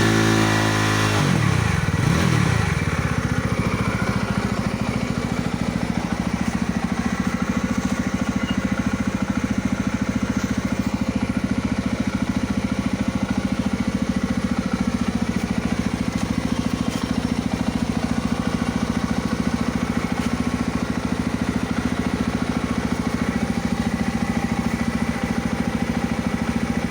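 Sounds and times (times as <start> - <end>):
motorcycle engine idling: 0.0 - 26.9.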